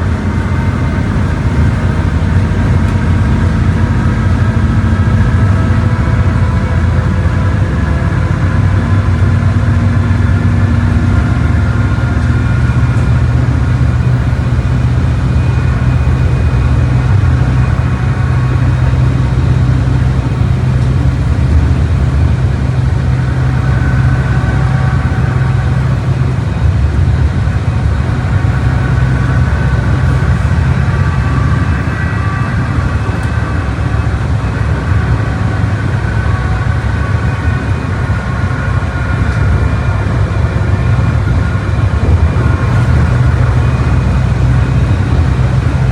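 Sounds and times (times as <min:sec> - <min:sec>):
diesel bus engine droning: 0:00.0 - 0:45.9.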